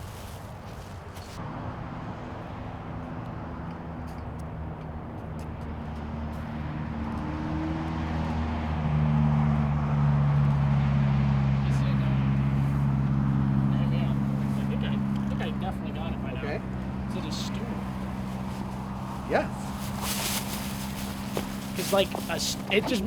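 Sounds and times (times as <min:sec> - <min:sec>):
vehicle engine approaching: 0:00.0 - 0:23.0.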